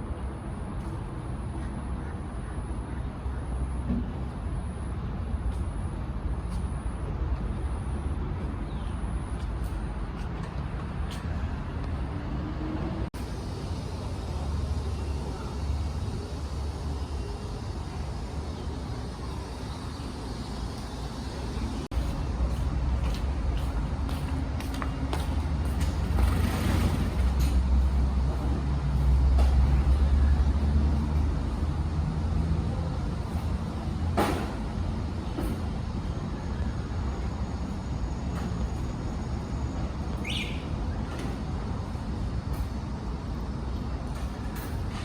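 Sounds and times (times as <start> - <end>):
heavy vehicle engines rumbling: 0.0 - 45.0
road traffic: 0.0 - 45.0.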